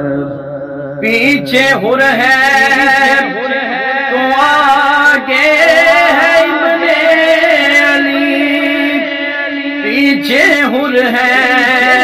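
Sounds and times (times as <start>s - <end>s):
man singing a long vowel: 0.0s - 12.0s.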